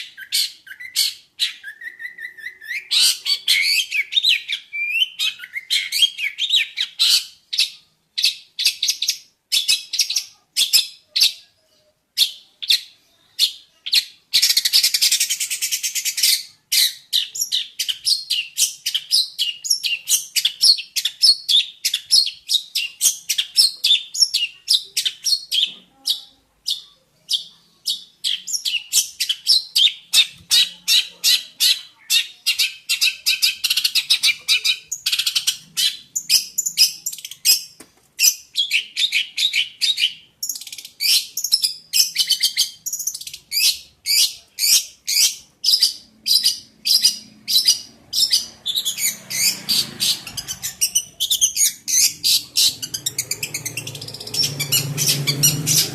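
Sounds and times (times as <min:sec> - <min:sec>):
bird singing high chirps: 0:00.0 - 0:11.5, 0:12.2 - 0:55.9.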